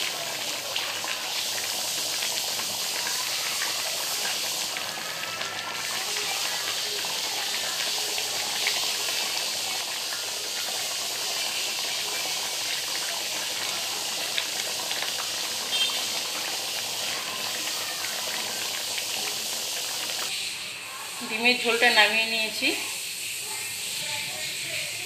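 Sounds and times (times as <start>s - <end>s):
curry boiling and bubbling: 0.0s - 25.0s.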